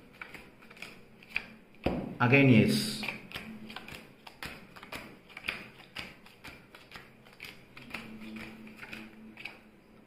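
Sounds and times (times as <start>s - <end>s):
playing cards snapping: 0.1s - 2.0s, 2.8s - 9.7s.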